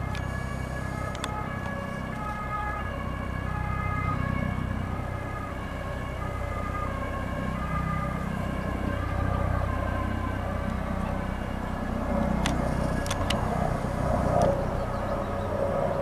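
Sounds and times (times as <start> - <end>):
ambulance two-tone siren: 0.0 - 16.0
steady low rumble: 0.0 - 16.0.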